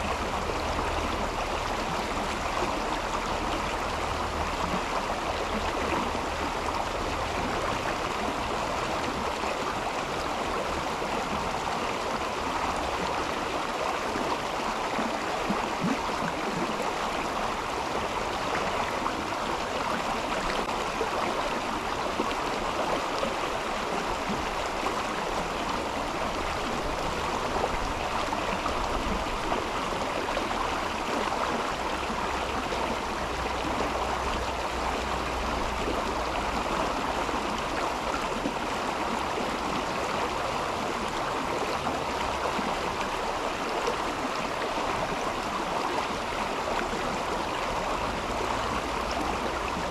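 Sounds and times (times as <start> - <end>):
river flowing over stones: 0.0 - 49.9.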